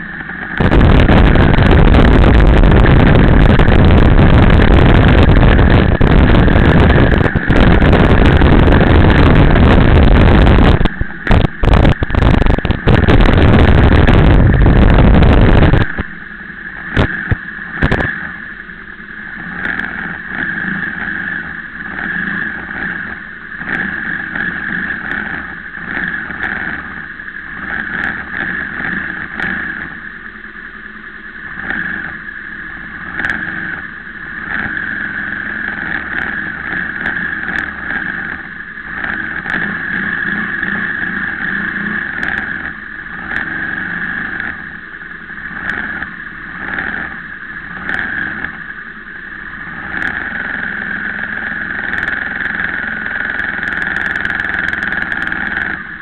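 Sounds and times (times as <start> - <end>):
motorcycle engine: 0.0 - 56.0
steady whine: 0.0 - 56.0
vehicle engines idling: 0.0 - 56.0.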